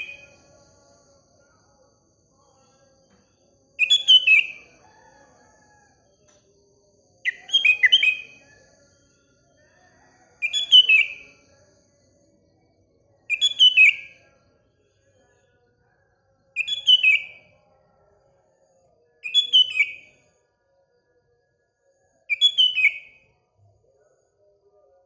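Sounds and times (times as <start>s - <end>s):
faint steady high tone: 0.0s - 20.4s.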